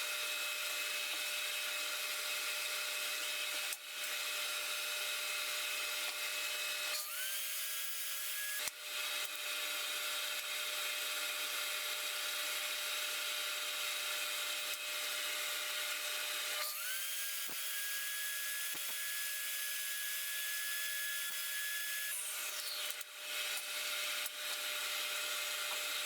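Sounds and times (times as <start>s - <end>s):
power tool running on wood: 0.0s - 26.0s.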